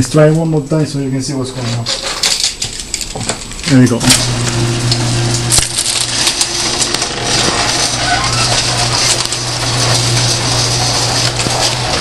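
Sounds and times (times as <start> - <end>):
garage door opener motor hum: 1.9 - 12.0.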